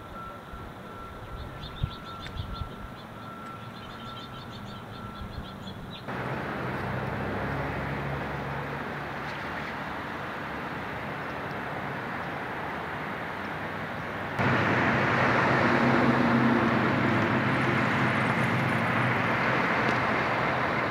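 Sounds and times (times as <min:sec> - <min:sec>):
distant traffic: 0:00.0 - 0:20.9
street traffic engines humming: 0:00.0 - 0:20.9.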